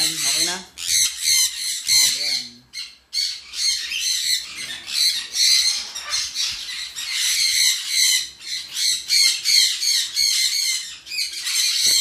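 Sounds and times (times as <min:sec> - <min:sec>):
parrots squawking and screeching: 0:00.0 - 0:12.0.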